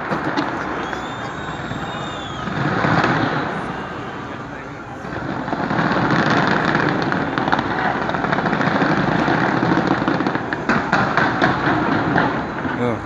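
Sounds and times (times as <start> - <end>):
fireworks crackling and bangs: 0.0 - 13.0.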